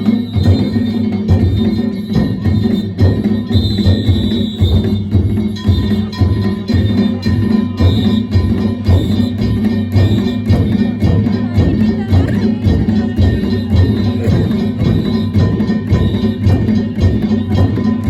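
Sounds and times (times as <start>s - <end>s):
big drum beating: 0.0s - 18.0s
clanging hand bells: 0.0s - 18.0s
smaller drums: 0.0s - 18.0s.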